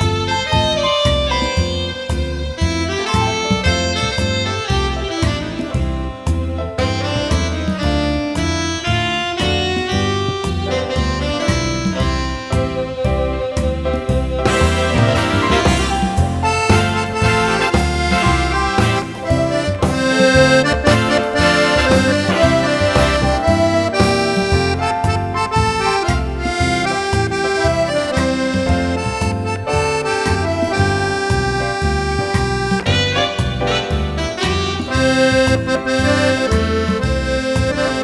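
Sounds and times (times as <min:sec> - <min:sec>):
accordion melody: 0:00.0 - 0:38.0
rhythmic bass accompaniment: 0:00.0 - 0:38.0.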